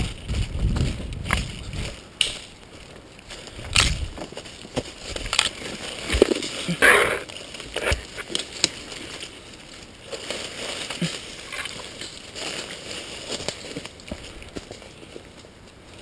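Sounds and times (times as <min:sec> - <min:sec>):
dry leaves and twigs crackling: 0:00.0 - 0:16.0
footsteps in undergrowth: 0:00.0 - 0:16.0.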